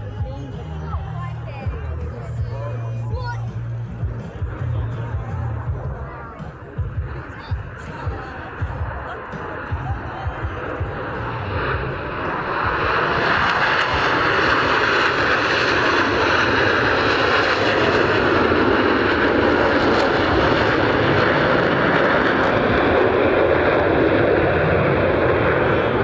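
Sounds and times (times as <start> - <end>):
jets flying by: 0.1 - 26.0.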